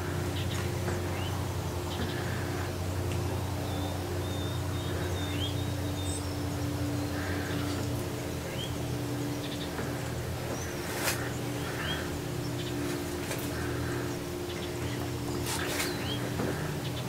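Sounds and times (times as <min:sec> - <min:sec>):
birds chirping: 0:00.0 - 0:17.0
low hum: 0:00.0 - 0:17.0.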